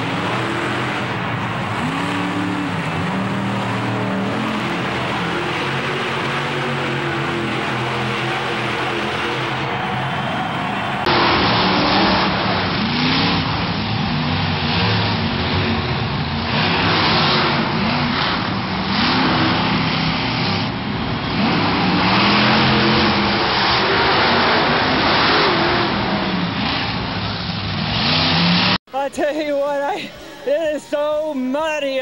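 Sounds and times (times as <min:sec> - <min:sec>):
monster truck engines revving: 0:00.0 - 0:32.0.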